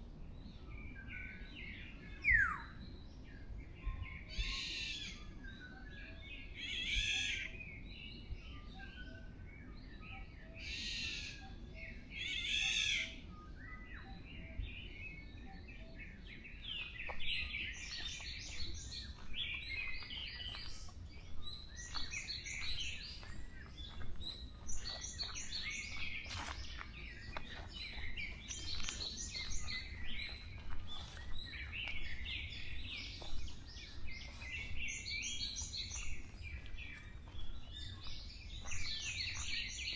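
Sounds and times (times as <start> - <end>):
songbirds twittering chorus: 0.0 - 39.9.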